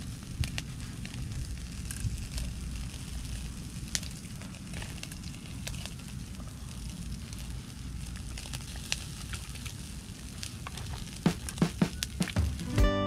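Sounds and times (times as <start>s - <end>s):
steady low rumble: 0.0s - 10.6s
crackles and pops from coals: 0.0s - 12.8s
meat sizzling on grill: 0.0s - 12.8s.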